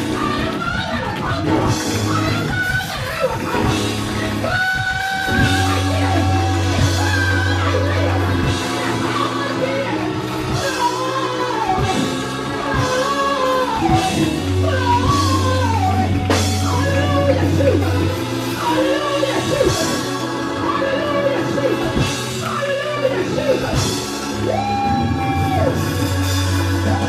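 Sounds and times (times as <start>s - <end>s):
drums hitting steadily: 0.0s - 18.5s, 23.3s - 27.0s
person singing: 0.0s - 27.0s.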